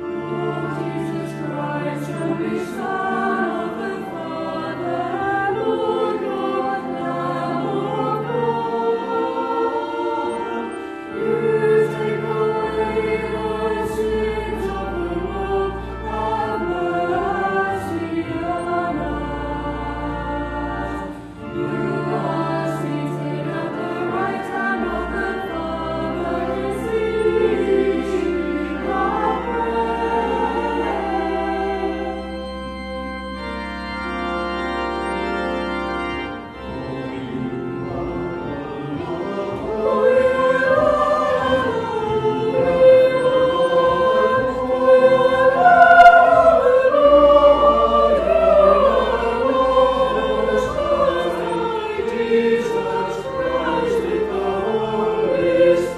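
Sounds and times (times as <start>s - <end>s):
voices singing: 0.0s - 33.6s, 36.6s - 55.9s
church organ low notes: 0.0s - 55.9s.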